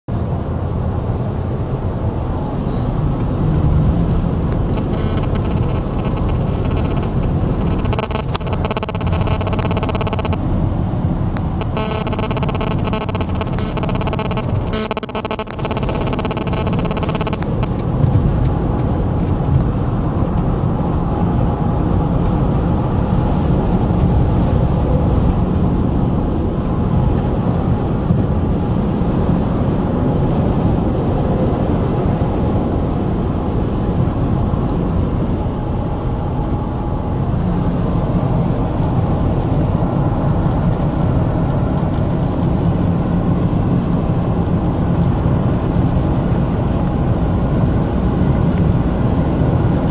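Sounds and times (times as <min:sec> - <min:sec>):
car interior road rumble: 0:00.1 - 0:49.9.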